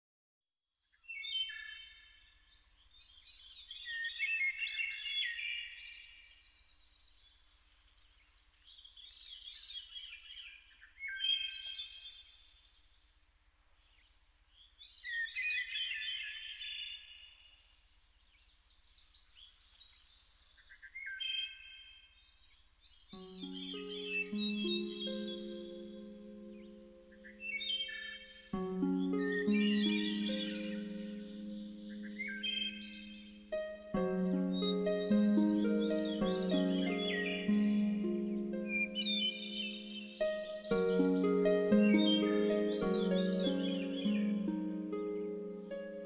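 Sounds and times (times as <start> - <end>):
songbirds twittering: 0.9 - 46.0.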